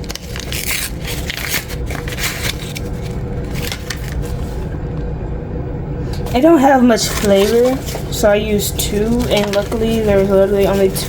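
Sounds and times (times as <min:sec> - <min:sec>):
paper wrappers crinkling: 0:00.0 - 0:04.7, 0:06.3 - 0:11.0
steady low hum: 0:00.0 - 0:11.0.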